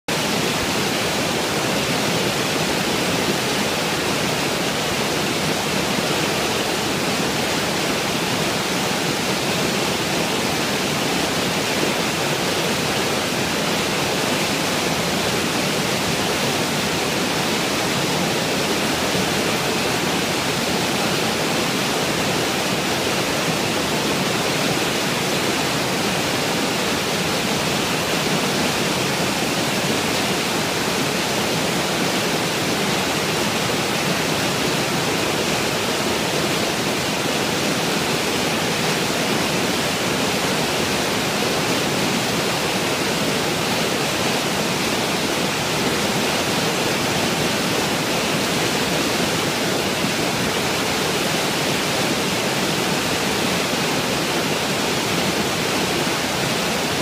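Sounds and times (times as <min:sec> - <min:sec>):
whitewater rushing over boulder: 0:00.1 - 0:57.0.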